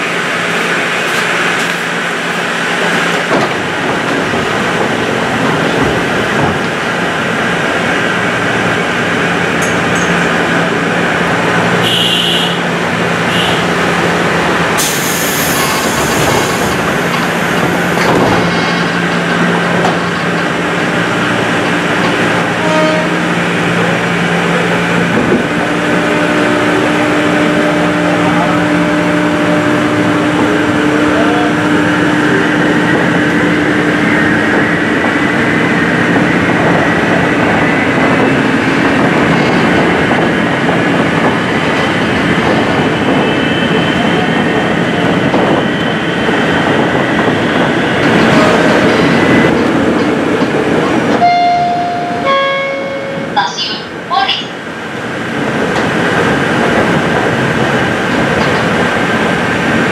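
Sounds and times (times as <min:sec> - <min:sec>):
train equipment hum: 0:00.0 - 0:59.9.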